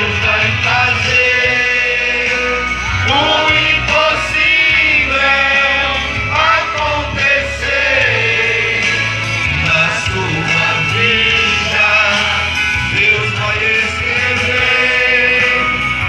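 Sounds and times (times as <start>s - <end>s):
group singing along: 0.0s - 16.0s
man singing into a microphone: 0.0s - 16.0s.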